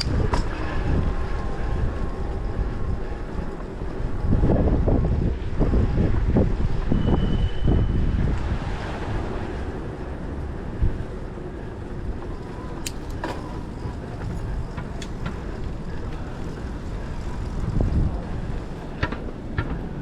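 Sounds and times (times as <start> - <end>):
rolling road noise: 0.0 - 20.0
wind on microphone: 0.0 - 20.0.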